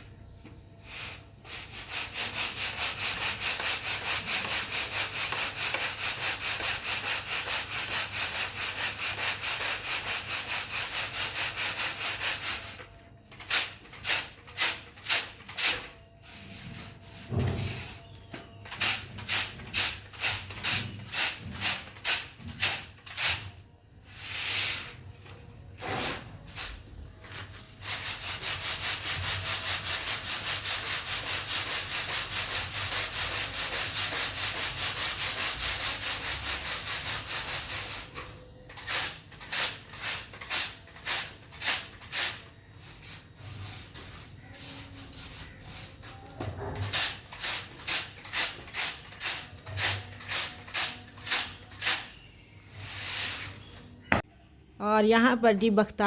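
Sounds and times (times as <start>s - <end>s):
rubbing or scraping strokes: 0.8s - 23.4s, 24.0s - 54.2s.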